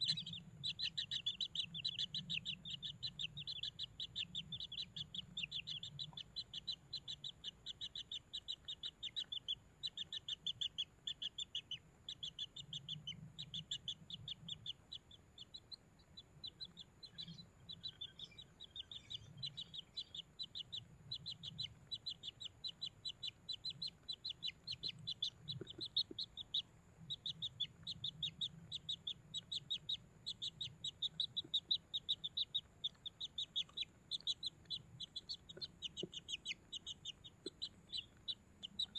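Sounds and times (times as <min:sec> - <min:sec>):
chicks begging chirps: 0:00.0 - 0:38.9.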